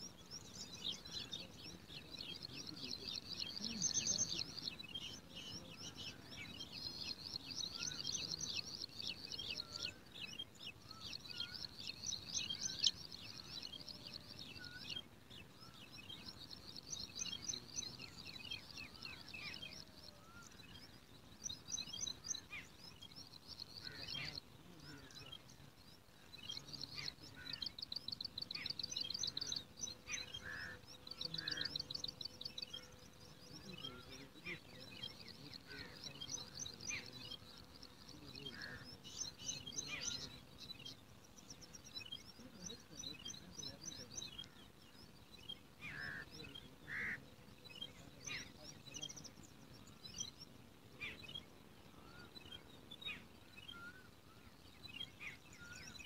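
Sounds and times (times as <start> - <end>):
small birds chirping in trills: 0.0 - 56.0.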